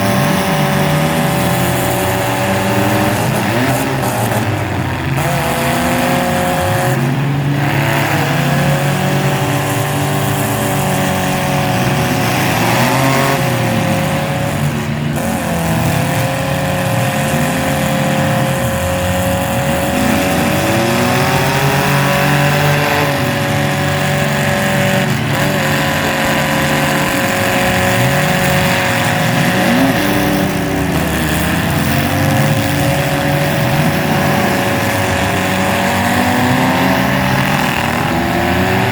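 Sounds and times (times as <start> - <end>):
small truck engines revving: 0.0 - 38.9.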